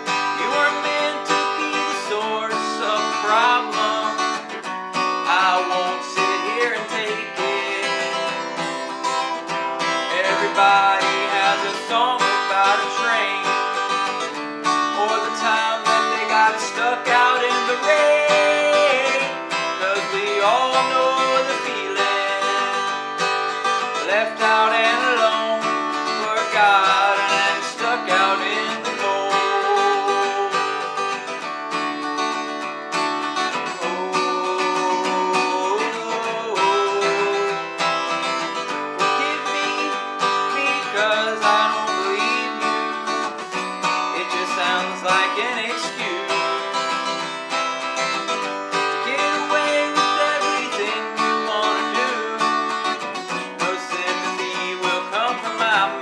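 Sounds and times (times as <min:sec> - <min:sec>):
acoustic guitar chords: 0:00.0 - 0:56.0.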